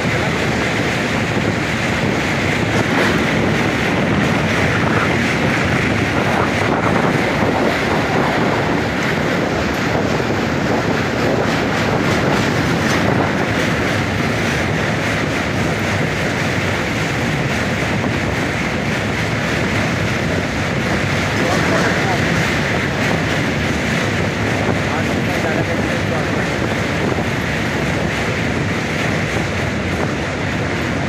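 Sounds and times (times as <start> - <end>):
train rumbling on bridge: 0.0 - 31.0
wheels clickety-clack over rail joints: 0.0 - 31.0.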